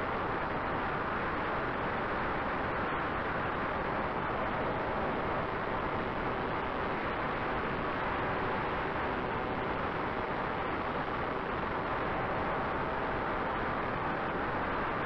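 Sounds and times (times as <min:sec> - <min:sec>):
airflow and propeller noise: 0:00.0 - 0:15.0.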